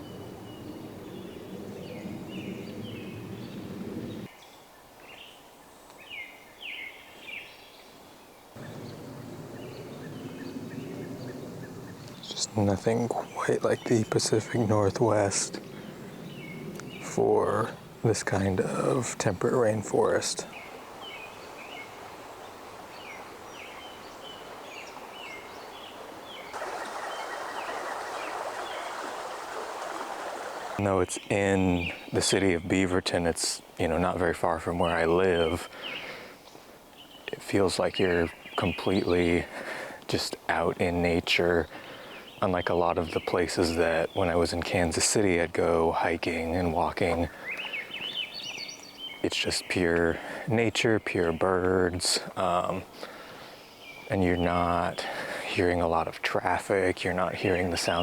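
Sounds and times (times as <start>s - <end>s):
songbirds chirping: 0.0s - 58.0s
woodland ambience: 0.0s - 58.0s.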